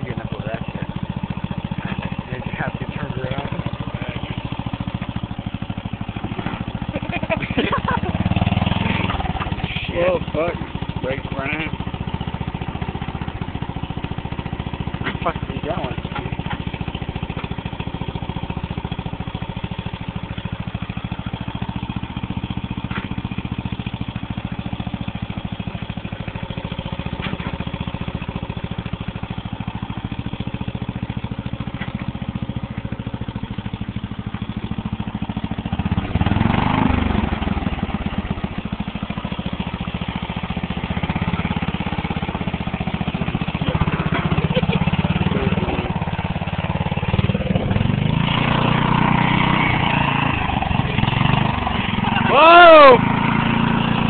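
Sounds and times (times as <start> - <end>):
lawn mower engine revving: 0.0 - 54.0.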